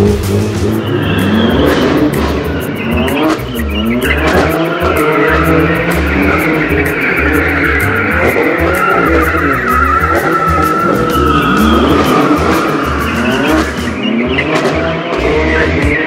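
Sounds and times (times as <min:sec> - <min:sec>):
car engine revving: 0:00.0 - 0:16.0
music with heavy bass beat: 0:00.0 - 0:16.0
tyres squealing: 0:00.0 - 0:16.0.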